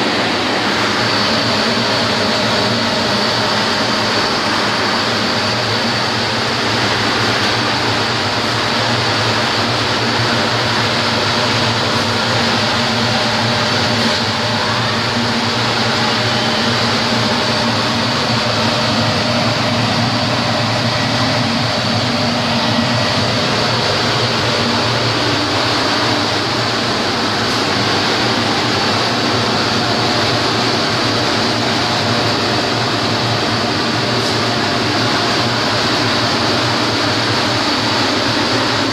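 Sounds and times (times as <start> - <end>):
high mechanical whine: 0.0 - 38.9
textile machine humming and clattering: 0.0 - 38.9.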